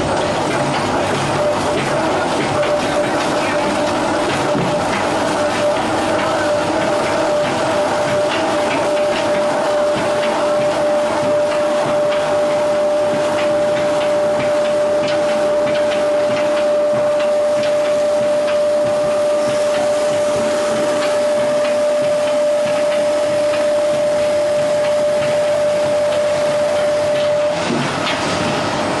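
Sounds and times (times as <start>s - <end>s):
machine whine: 0.0s - 29.0s.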